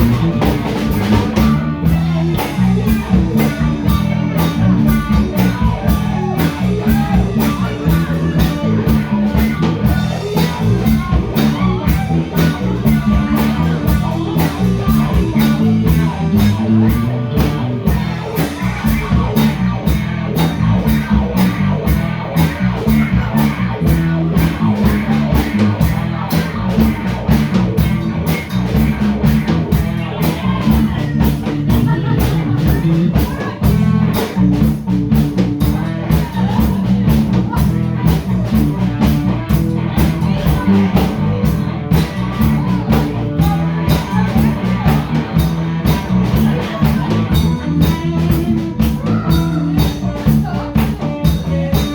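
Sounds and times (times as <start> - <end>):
bass: 0.0 - 51.9
drum kit beat: 0.0 - 51.9
electric guitar: 0.0 - 51.9.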